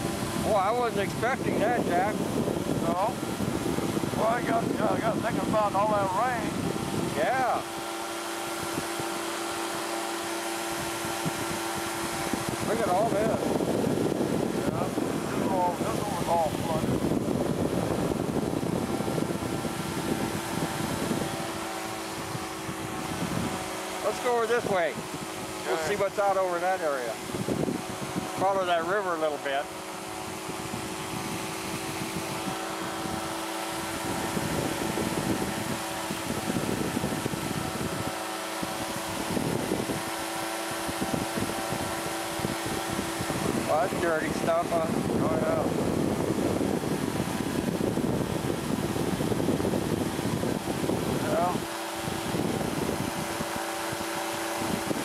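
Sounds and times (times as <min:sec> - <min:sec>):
engine and propeller drone: 0:00.0 - 0:55.0
steady hum tone: 0:00.0 - 0:55.0
wind rumbling on microphone: 0:00.0 - 0:55.0.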